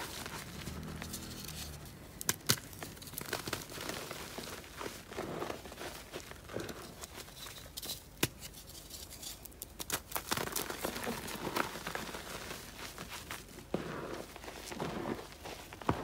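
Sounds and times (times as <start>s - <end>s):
hands crushing dry chalk: 0.0s - 16.0s.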